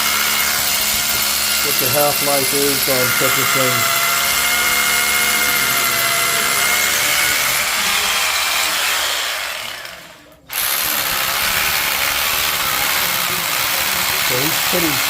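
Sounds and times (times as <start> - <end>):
electric drill running: 0.0 - 15.0.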